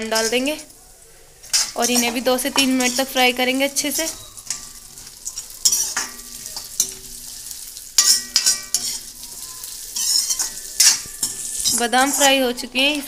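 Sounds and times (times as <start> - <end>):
metal ladle scraping a pan: 0.0 - 12.8
almonds sizzling in hot fat: 0.0 - 13.0.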